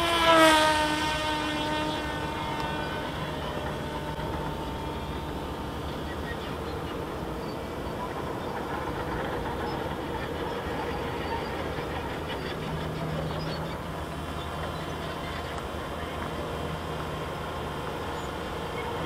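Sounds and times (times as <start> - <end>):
electric motor and propeller whirring: 0.0 - 19.0.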